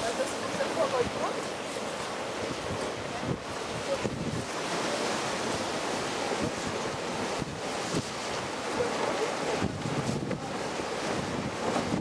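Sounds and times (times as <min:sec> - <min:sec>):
sea waves washing: 0:00.0 - 0:12.0
wind on microphone: 0:00.0 - 0:12.0.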